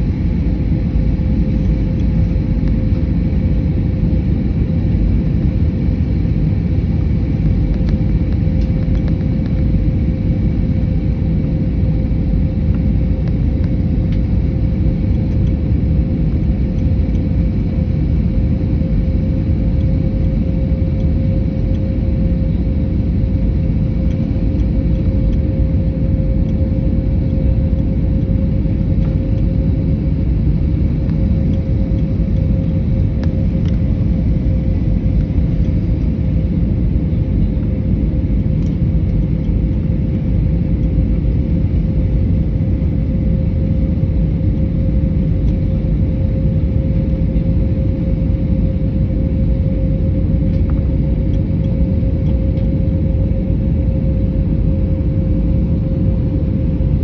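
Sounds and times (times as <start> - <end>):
airliner cabin engine rush: 0.0 - 57.0.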